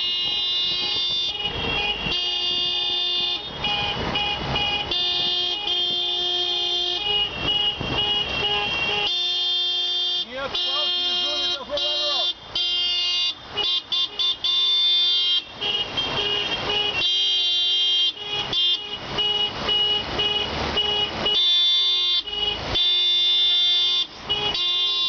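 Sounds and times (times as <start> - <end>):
car horns honking: 0.0 - 25.0.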